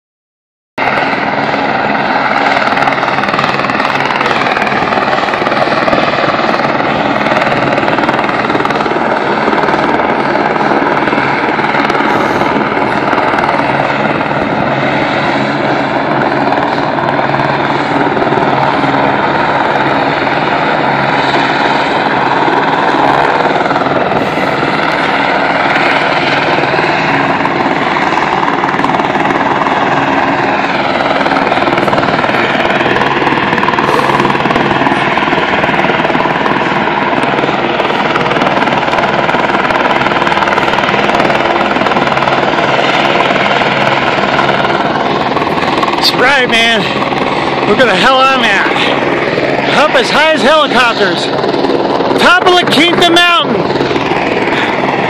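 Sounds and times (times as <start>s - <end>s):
helicopter rotor and engine: 0.8s - 55.0s.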